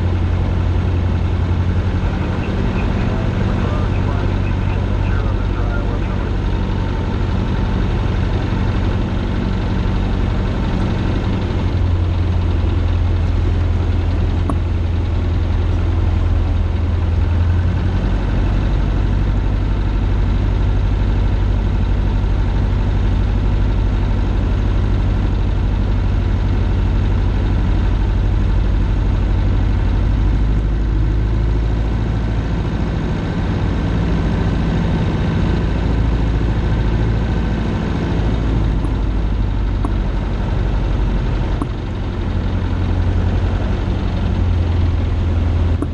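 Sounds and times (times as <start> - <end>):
propeller plane engine droning: 0.0 - 45.9.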